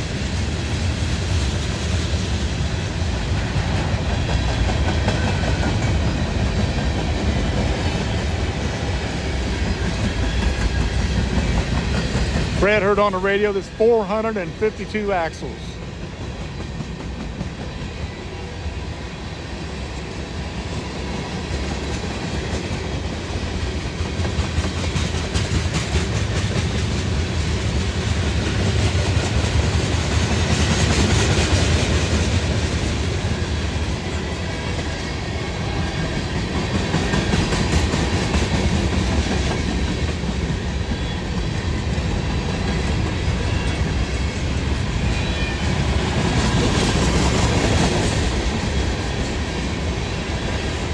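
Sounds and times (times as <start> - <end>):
steel wheels rumbling on rail: 0.0 - 50.9.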